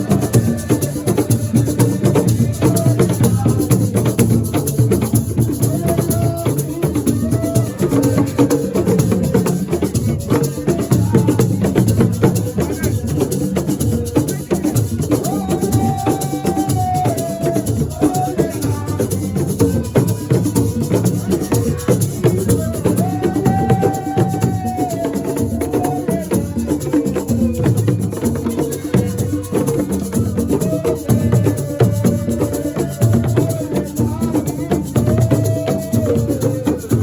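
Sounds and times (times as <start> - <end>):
hand drums and rattles: 0.0 - 37.0.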